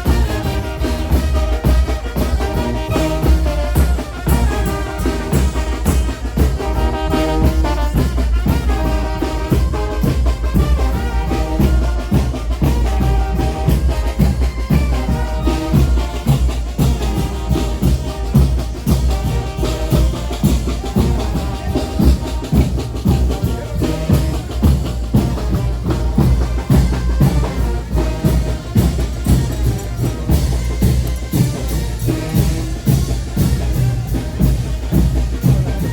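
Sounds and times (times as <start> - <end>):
bass drum and percussion beat: 0.0 - 35.9
trumpets playing melody: 0.0 - 35.9.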